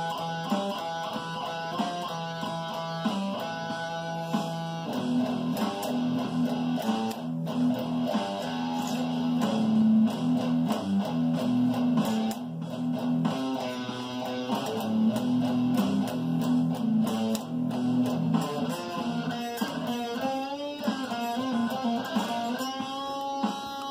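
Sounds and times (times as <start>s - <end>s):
drum track: 0.0s - 23.9s
electric guitar: 0.0s - 23.9s.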